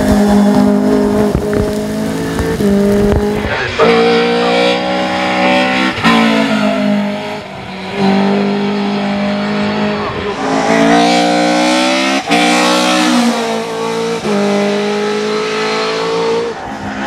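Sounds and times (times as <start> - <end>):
racing car engine at high revs: 0.0 - 17.0.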